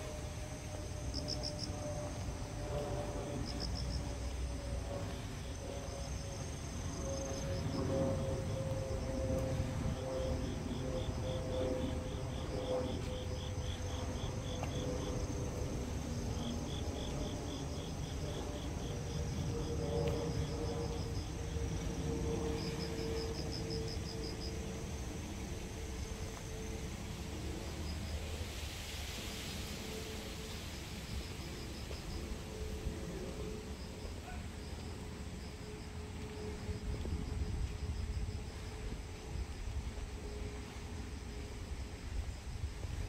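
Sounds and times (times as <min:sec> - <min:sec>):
insects chirping: 0:00.0 - 0:43.0
steady low rumble: 0:00.0 - 0:43.0.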